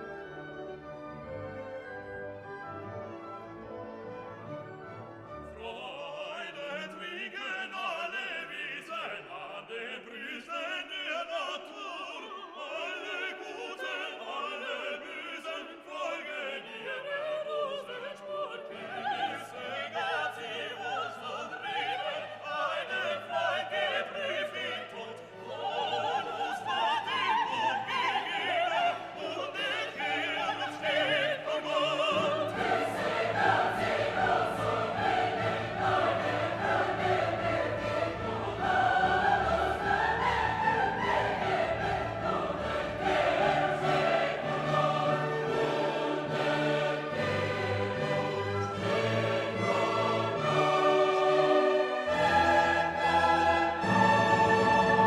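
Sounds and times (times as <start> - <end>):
operatic singing with orchestra: 0.0 - 55.0.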